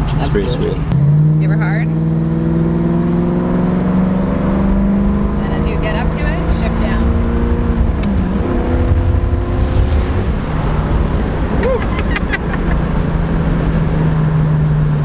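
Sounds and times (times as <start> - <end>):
car engine under throttle: 0.0 - 15.0.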